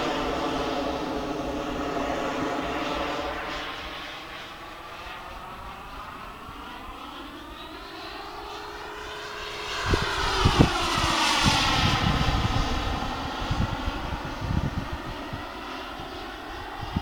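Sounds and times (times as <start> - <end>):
jet turbine whine: 0.0 - 17.0.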